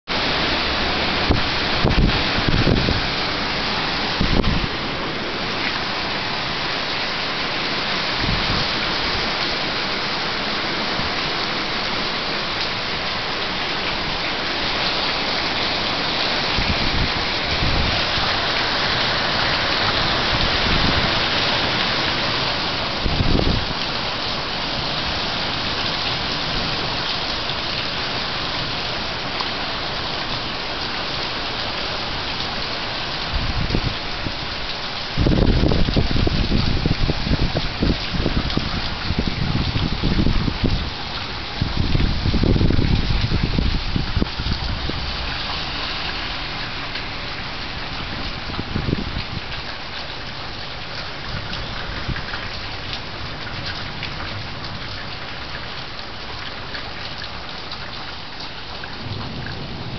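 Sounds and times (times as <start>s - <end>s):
heavy rain hissing: 0.1s - 59.9s.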